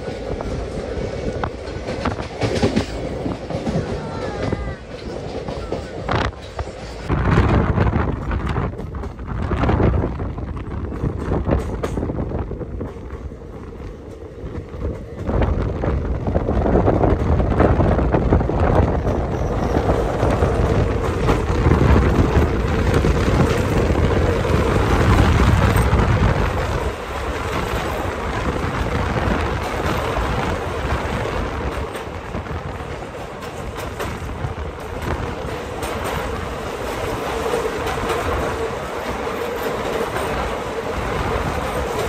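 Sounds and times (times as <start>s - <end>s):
train wheel and wind noise: 0.0s - 42.0s.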